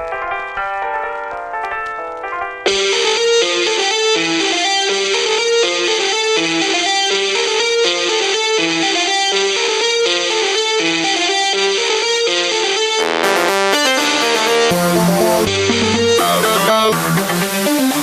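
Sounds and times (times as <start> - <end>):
music with repeating beat: 0.0 - 18.0.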